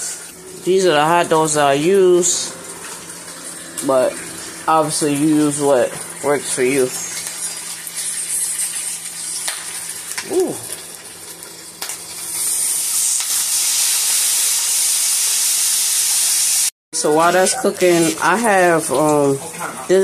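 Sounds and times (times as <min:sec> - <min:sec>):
hot dogs sizzling in frying pan: 0:00.0 - 0:20.0.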